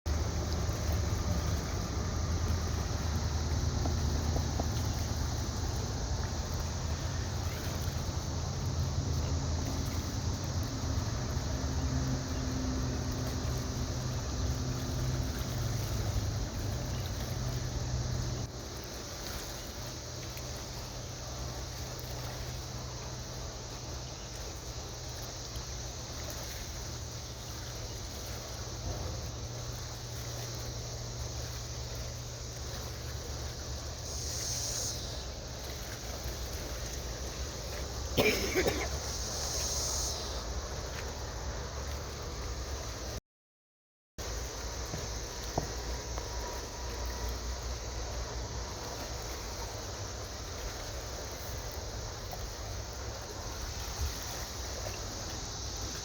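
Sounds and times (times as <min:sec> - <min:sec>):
boat engine rumbling: 0:00.0 - 0:43.2, 0:44.2 - 0:56.0.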